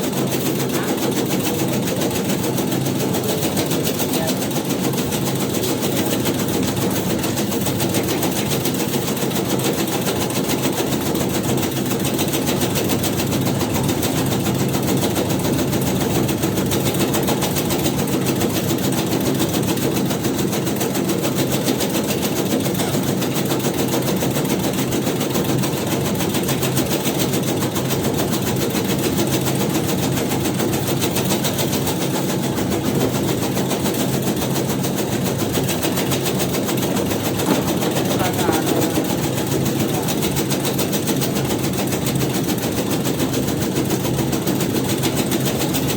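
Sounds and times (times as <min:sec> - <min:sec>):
shredding machine clattering: 0:00.0 - 0:23.8, 0:27.8 - 0:45.9.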